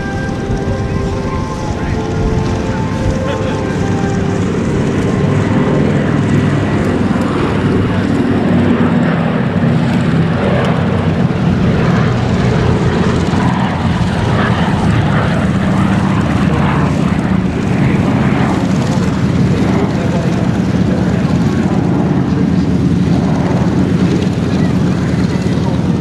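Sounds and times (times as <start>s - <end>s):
propeller planes droning past: 0.0s - 26.0s.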